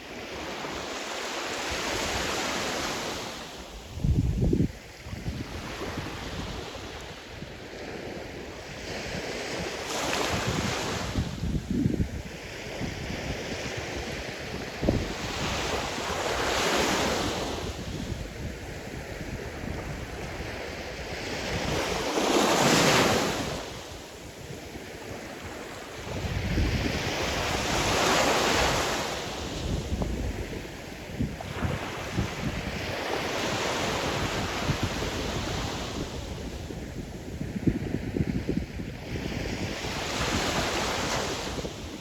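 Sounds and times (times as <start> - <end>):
sea waves breaking on shore: 0.0 - 4.0, 4.7 - 37.1, 38.8 - 42.0
wind buffeting microphone: 3.9 - 42.0.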